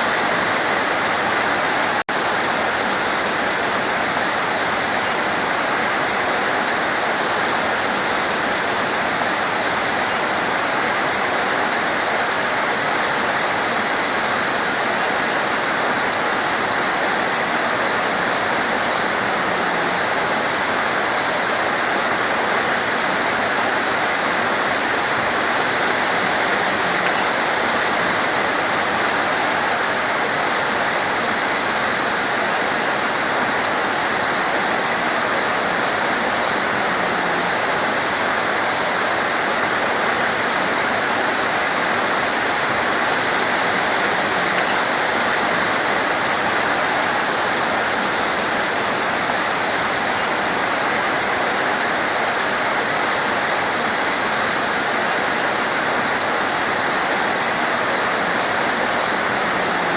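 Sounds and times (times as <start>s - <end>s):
sharp ticks of raindrops: 0.0s - 59.9s
torrential rain pouring: 0.0s - 59.9s.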